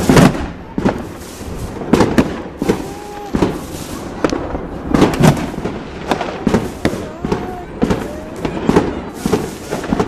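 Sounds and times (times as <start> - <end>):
fireworks banging: 0.0 - 10.0.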